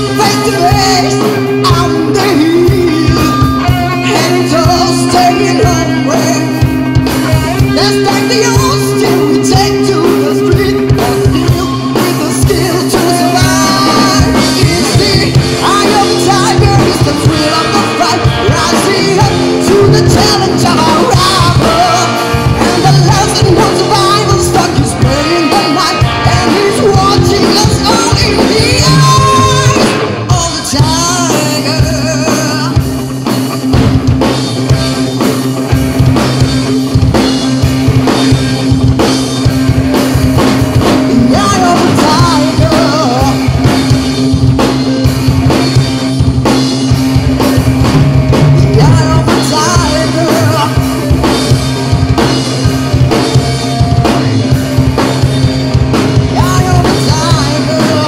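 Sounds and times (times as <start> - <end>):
bass guitar: 0.0 - 58.0
drum kit: 0.0 - 58.0
electric guitars: 0.0 - 58.0
male lead singer: 0.0 - 58.0.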